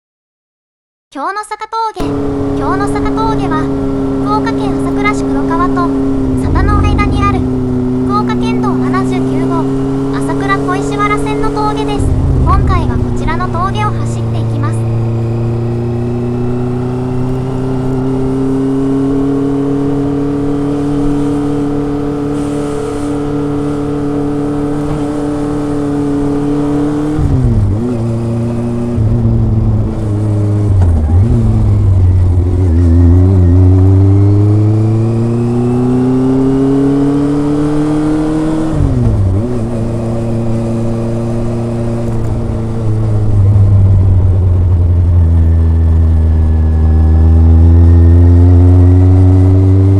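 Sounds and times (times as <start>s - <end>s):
motorcycle engine and exhaust: 2.0s - 49.9s.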